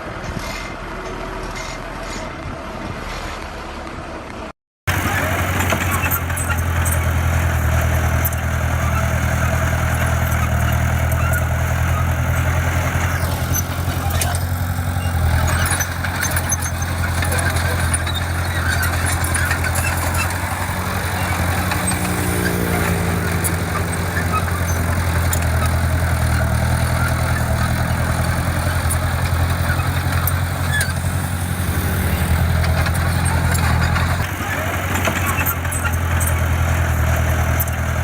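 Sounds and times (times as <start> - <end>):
diesel engine running: 4.9 - 38.0.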